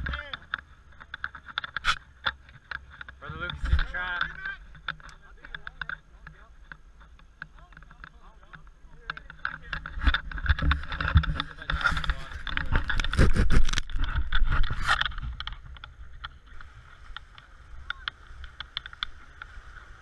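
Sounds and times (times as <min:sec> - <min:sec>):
surf: 0:00.0 - 0:20.0
wind rumble on microphone: 0:01.1 - 0:05.7, 0:08.6 - 0:20.0.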